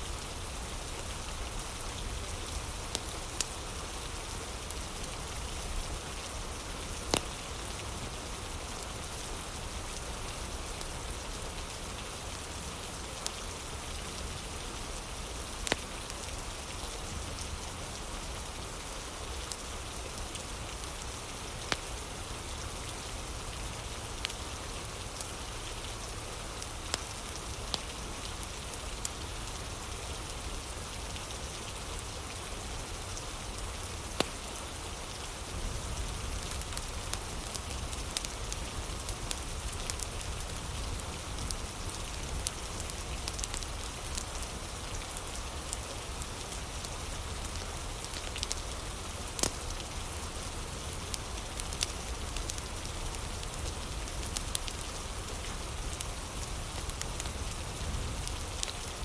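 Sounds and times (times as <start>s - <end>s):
steady rain falling: 0.0s - 59.0s
wood fire crackling: 0.1s - 11.3s, 12.0s - 17.8s, 18.8s - 31.3s, 32.2s - 59.0s.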